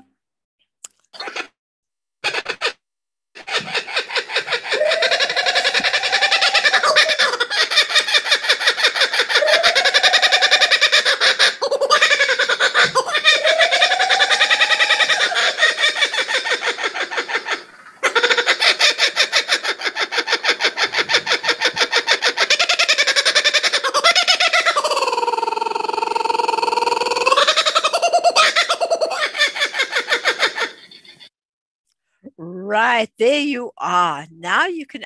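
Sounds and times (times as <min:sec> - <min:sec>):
kookaburra laughing call: 0:02.2 - 0:02.8, 0:03.4 - 0:31.3.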